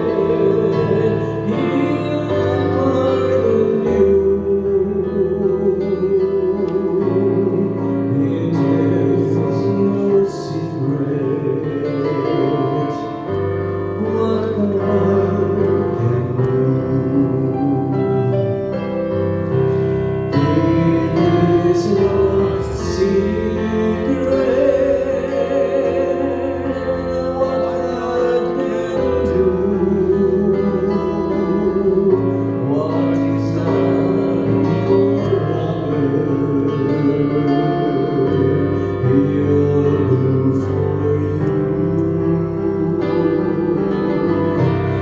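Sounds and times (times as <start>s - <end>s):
keyboard chords: 0.0s - 45.0s
worship singing: 0.0s - 45.0s.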